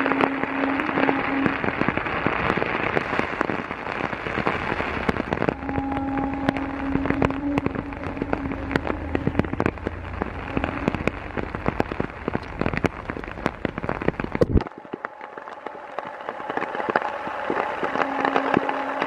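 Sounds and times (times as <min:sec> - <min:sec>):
heavy rain pouring: 0:00.0 - 0:19.0
low rumble: 0:00.0 - 0:19.0.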